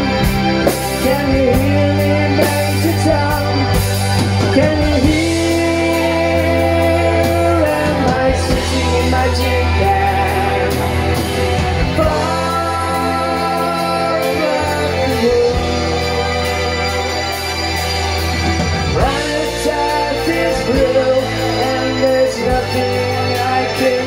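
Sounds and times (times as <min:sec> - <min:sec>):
electric bass: 0:00.0 - 0:24.0
electric guitar: 0:00.0 - 0:24.0
man singing: 0:00.8 - 0:18.2, 0:18.8 - 0:24.0.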